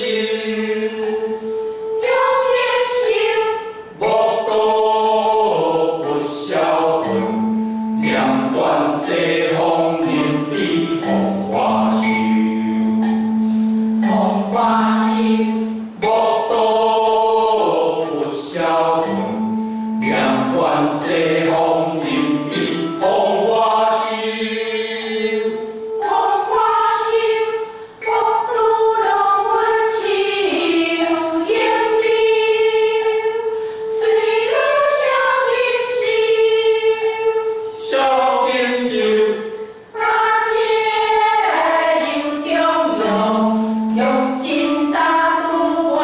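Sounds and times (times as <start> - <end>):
mixed choir chanting: 0.0 - 12.9, 14.0 - 46.0.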